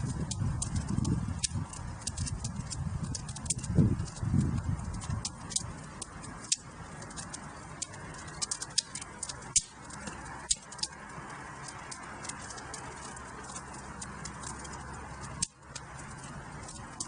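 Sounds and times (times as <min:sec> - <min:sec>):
hiss of flames: 0:00.0 - 0:17.0
wood fire crackling: 0:00.0 - 0:17.0.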